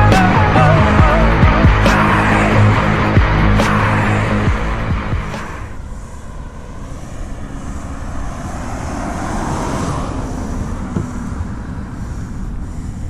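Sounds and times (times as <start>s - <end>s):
low rumble: 0.0s - 12.6s.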